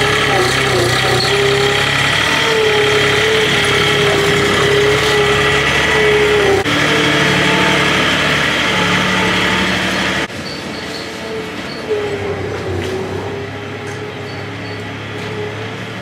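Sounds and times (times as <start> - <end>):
skid-steer loader engine running: 0.0 - 16.0.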